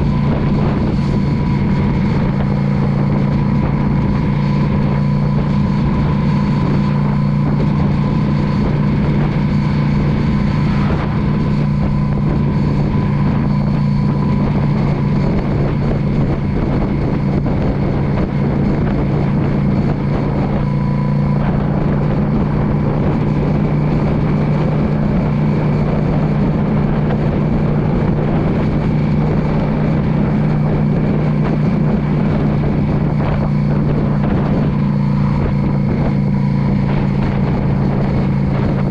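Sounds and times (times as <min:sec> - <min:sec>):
motorcycle engine cruising: 0:00.0 - 0:38.9
road and wind noise: 0:00.0 - 0:38.9.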